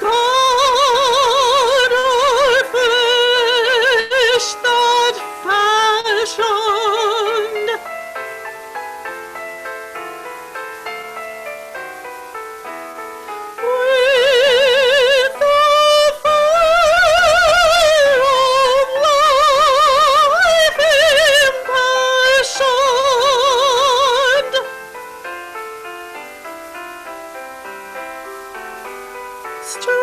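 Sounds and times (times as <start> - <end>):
soprano singing with vibrato: 0.0 - 9.4, 12.1 - 25.8, 28.6 - 30.0
piano accompaniment: 0.0 - 30.0.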